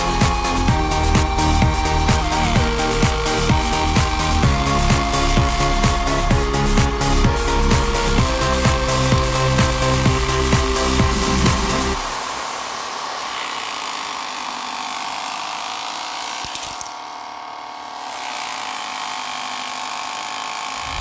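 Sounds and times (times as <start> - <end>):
desk fans whirring: 0.0 - 18.0, 20.5 - 21.0.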